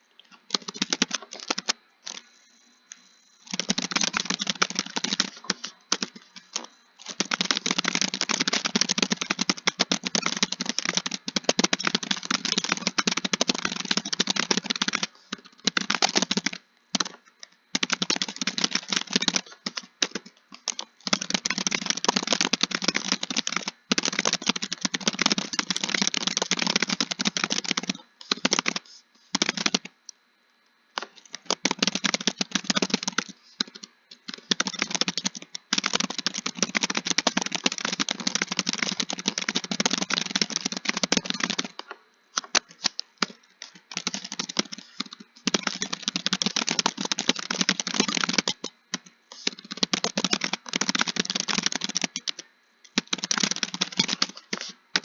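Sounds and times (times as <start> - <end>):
typing on computer keyboard: 0.5 - 30.0, 31.0 - 55.0.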